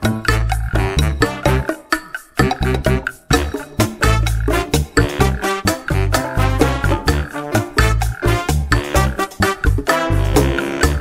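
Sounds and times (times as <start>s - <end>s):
music with quick percussive beat: 0.0s - 11.0s.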